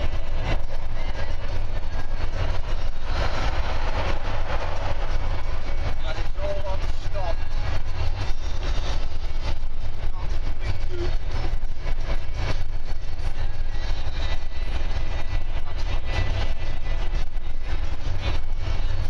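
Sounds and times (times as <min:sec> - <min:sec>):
vehicle engine and tyre rumble: 0:00.0 - 0:19.0.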